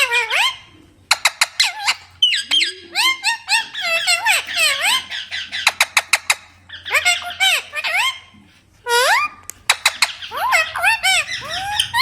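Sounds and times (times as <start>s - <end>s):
parrot chirping and squawking: 0.0s - 12.0s.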